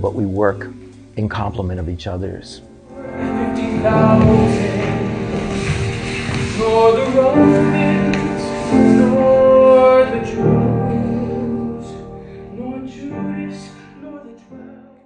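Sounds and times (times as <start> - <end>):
background music with held notes: 0.0 - 15.0.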